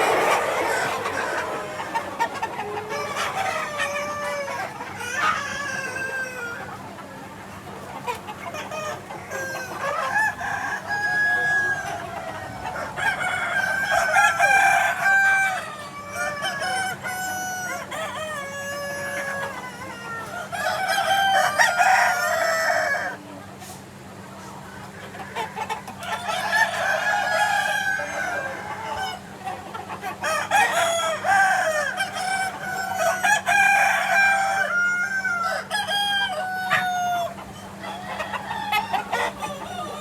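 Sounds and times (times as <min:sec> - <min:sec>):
roosters crowing: 0:00.0 - 0:06.9, 0:08.6 - 0:23.2, 0:24.7 - 0:40.0
hens clucking: 0:00.0 - 0:40.0.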